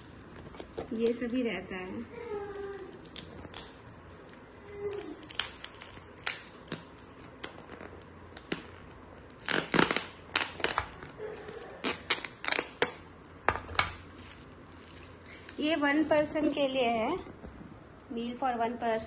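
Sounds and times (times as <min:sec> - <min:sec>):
plastic cling wrap crinkling: 0:00.0 - 0:17.3.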